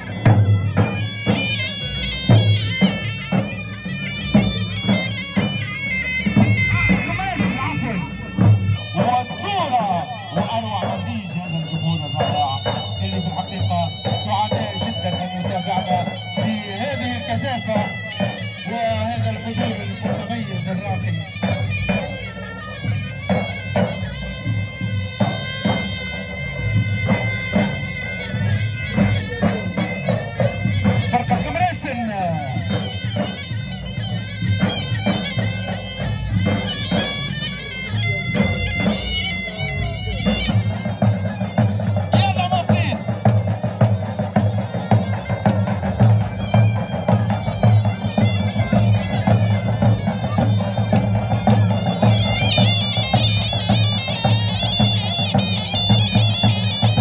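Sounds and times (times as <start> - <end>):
large drums beating: 0.0 - 57.0
shawms playing a melody: 0.0 - 57.0.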